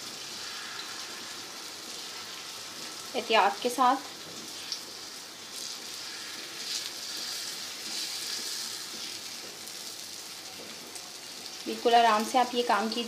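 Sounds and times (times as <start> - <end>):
batter sizzling in hot fat: 0.0 - 13.0.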